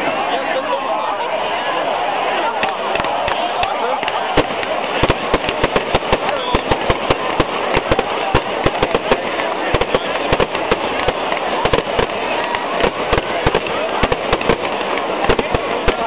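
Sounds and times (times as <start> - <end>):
murmur of crowd: 0.0 - 16.0
fireworks banging and crackling: 2.6 - 16.0.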